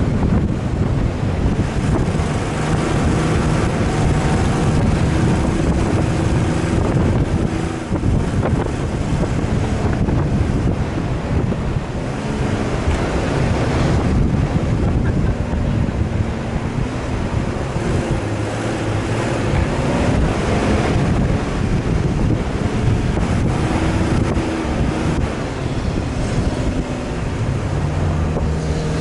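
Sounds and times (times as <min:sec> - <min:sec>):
vehicle engine running: 0:00.0 - 0:29.0
wind buffeting microphone: 0:00.0 - 0:29.0.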